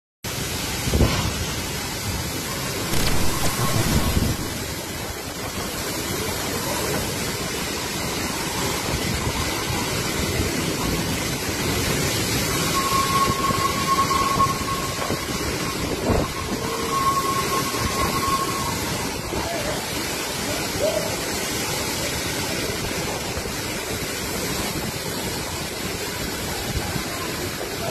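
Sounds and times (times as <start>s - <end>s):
storm wind and heavy rain: 0.3s - 27.9s.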